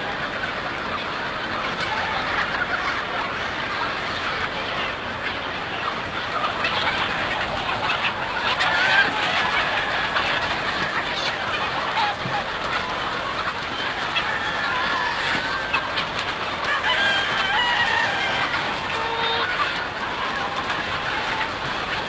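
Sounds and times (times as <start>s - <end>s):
flock of chickens clucking: 0.0s - 22.0s.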